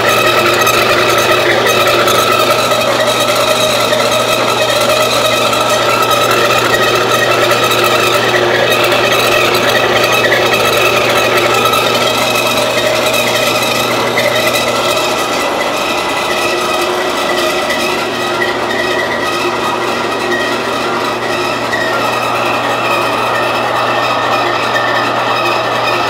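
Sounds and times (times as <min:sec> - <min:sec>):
band saw cutting metal: 0:00.0 - 0:26.0.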